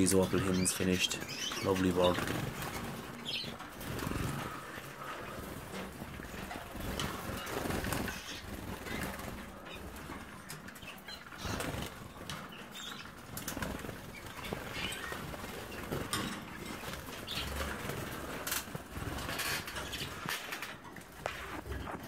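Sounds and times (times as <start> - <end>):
birds flapping wings: 0.0 - 22.0.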